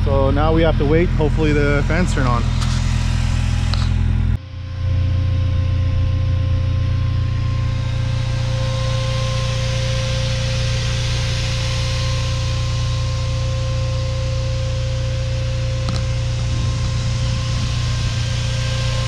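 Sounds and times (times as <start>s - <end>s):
car engine idling: 0.0s - 19.0s
radiator fan rushing air: 0.0s - 19.0s.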